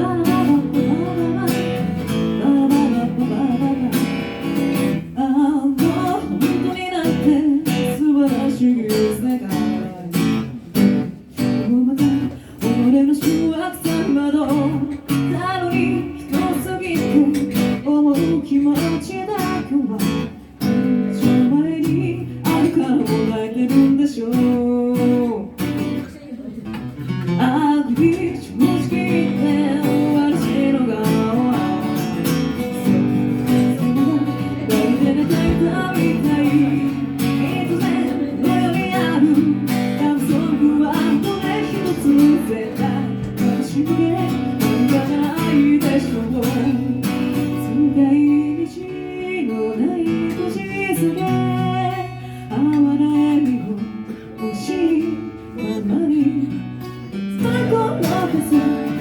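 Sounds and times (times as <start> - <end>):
person singing: 0.0 - 26.2, 27.4 - 59.0
acoustic guitar strumming: 0.0 - 59.0.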